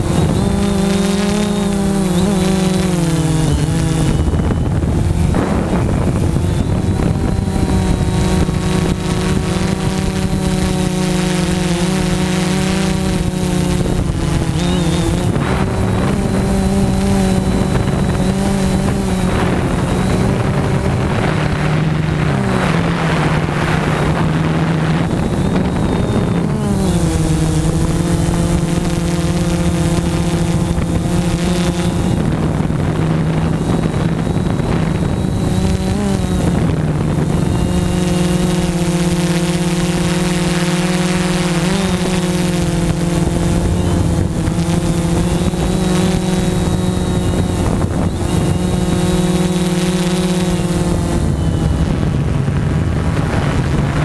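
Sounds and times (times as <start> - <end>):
drone buzzing: 0.0 - 54.0
wind noise: 0.0 - 54.0.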